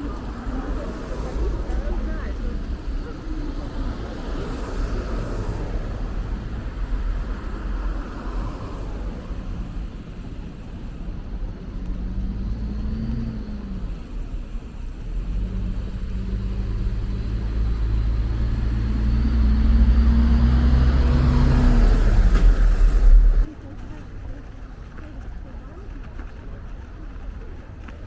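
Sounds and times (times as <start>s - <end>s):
car engine running: 0.0s - 23.5s
traffic low rumble: 0.0s - 28.0s.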